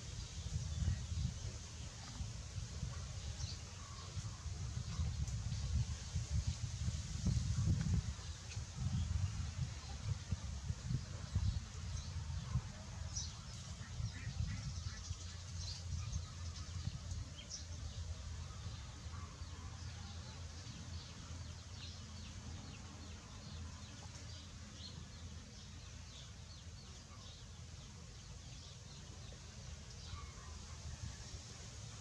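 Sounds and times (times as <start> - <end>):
small birds chirping: 0.0 - 30.8.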